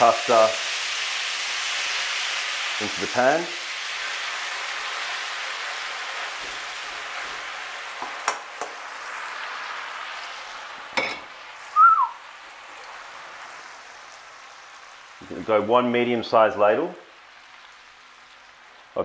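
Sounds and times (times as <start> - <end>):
spaghetti sizzling in frying pan: 0.0 - 19.0.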